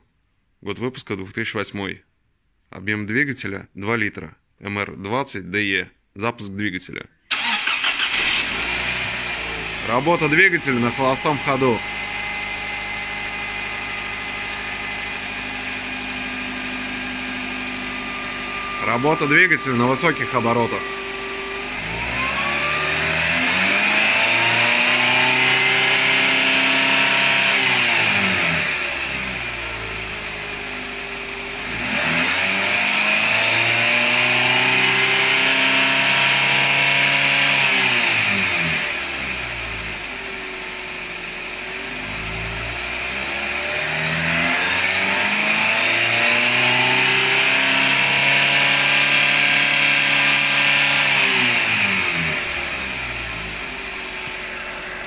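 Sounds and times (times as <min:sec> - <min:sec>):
car engine revving: 0:07.3 - 0:55.0.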